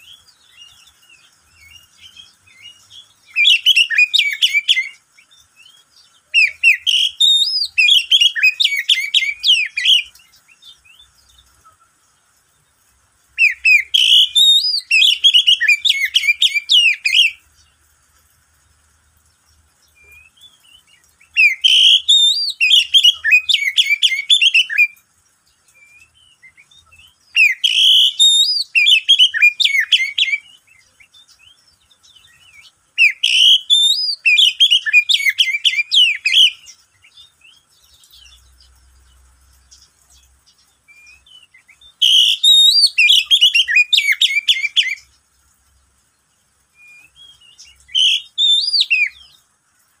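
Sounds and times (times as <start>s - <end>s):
bird whistled song: 0.0s - 12.0s, 13.4s - 17.8s, 19.8s - 45.2s, 46.7s - 49.4s.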